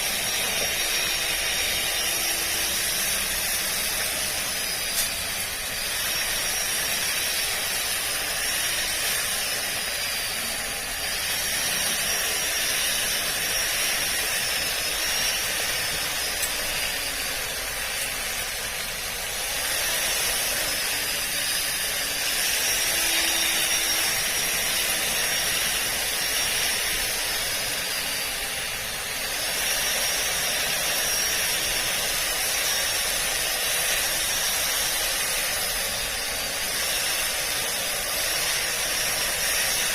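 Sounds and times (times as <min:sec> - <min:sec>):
string trimmer cutting grass: 0:00.0 - 0:39.9.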